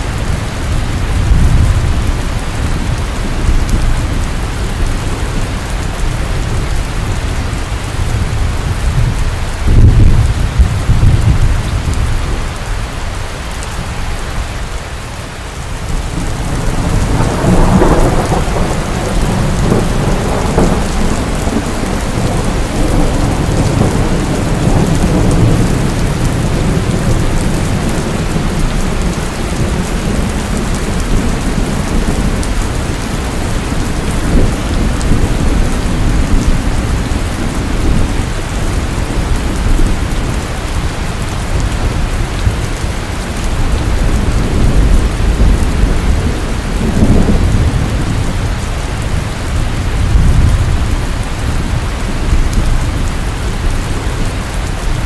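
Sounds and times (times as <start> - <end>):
thunder rumbling: 0.0 - 12.6, 15.7 - 55.0
steady rain: 0.0 - 55.0.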